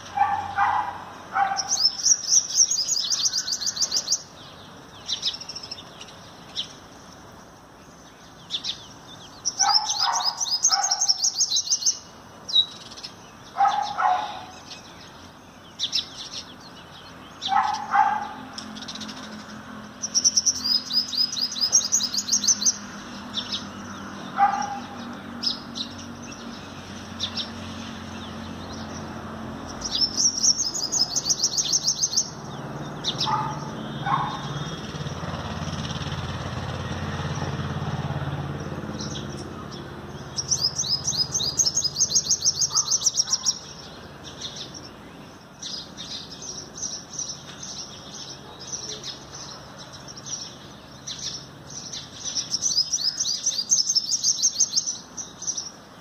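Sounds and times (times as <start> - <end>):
bird high-pitched twittering: 0.0 - 36.1, 38.6 - 55.8.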